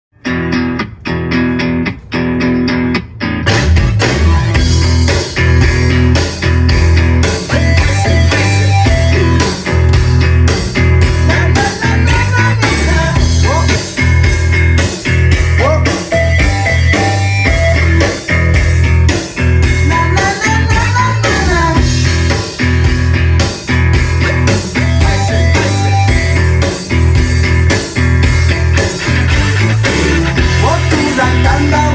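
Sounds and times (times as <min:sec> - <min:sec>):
rock music: 0:00.1 - 0:31.9
heavy bass: 0:00.2 - 0:31.9.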